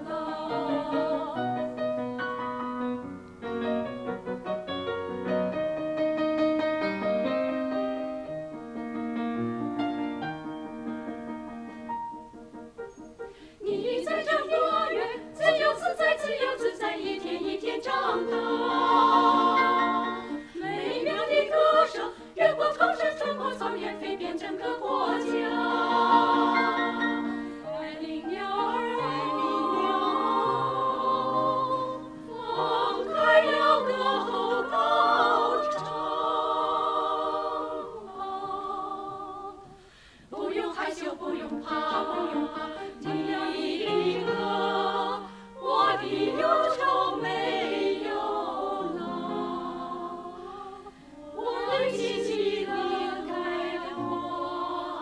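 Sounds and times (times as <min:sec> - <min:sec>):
women's choir singing: 0:00.0 - 0:02.5, 0:13.3 - 0:55.0.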